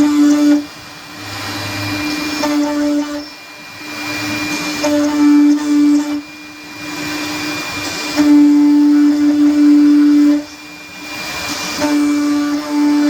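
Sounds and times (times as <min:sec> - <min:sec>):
hiss of cutting wood: 0:00.0 - 0:13.0
router spindle whine: 0:00.0 - 0:13.0.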